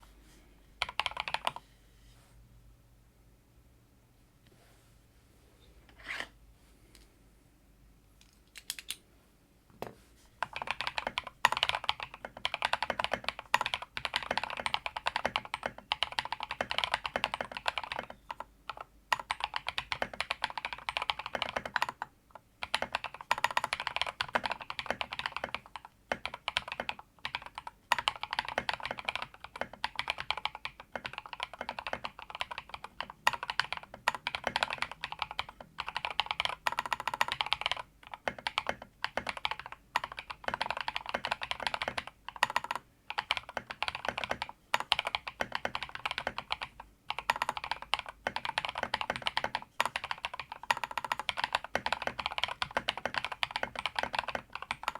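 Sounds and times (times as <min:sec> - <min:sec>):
mechanical keyboard typing: 0:00.8 - 0:01.6, 0:10.4 - 0:54.9.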